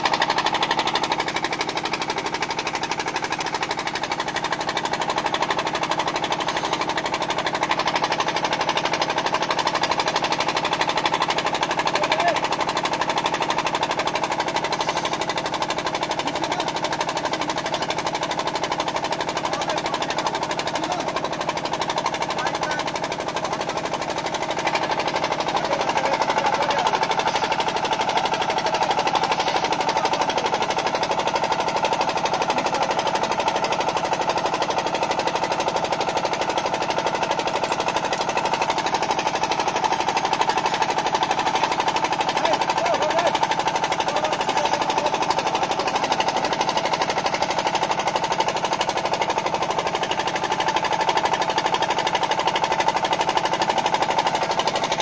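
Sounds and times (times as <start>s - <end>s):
drilling rig engine knocking: 0.0s - 55.0s.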